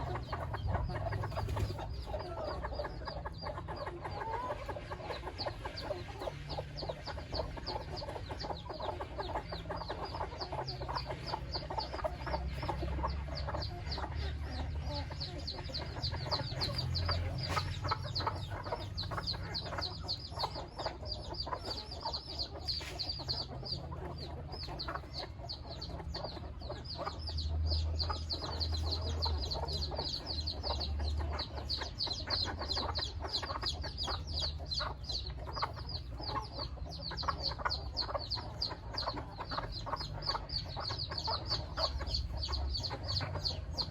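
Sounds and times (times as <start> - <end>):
chickens clucking: 0.0 - 43.9
high peeping calls: 0.0 - 43.9.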